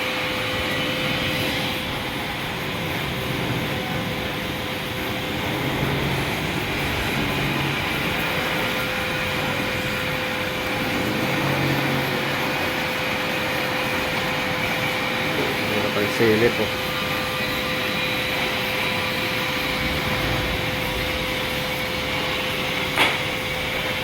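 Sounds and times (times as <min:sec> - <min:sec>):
constant pitched hum: 0:00.0 - 0:24.0
steady mechanical drone: 0:00.0 - 0:24.0.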